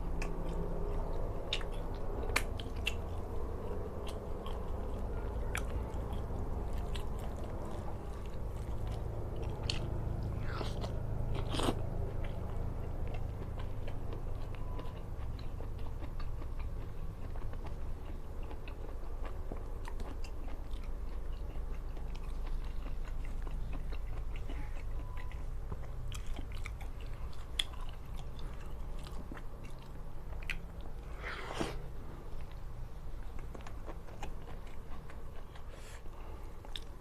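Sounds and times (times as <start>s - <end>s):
person chewing crunchy food: 0.0s - 37.0s
steady low hum: 0.0s - 37.0s.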